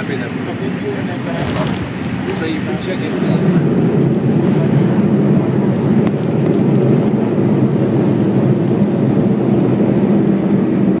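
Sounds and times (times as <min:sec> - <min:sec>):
jet airliner cabin rumble: 0:00.0 - 0:11.0.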